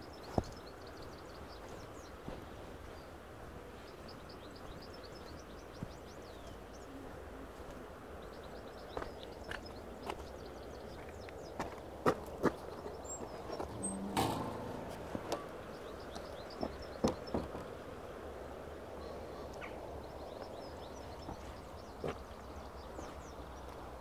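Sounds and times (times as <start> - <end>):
low outdoor background noise: 0.0 - 24.0
songbirds chirping: 0.0 - 24.0.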